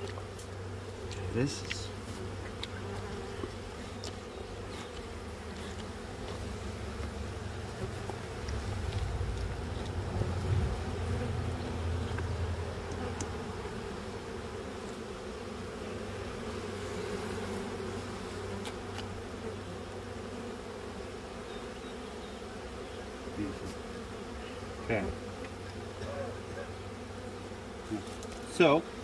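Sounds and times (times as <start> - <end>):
bees buzzing: 0.0 - 29.0.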